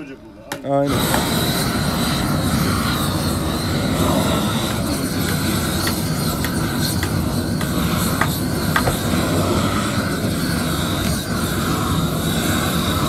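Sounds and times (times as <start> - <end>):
gas torch burning: 0.5 - 13.0.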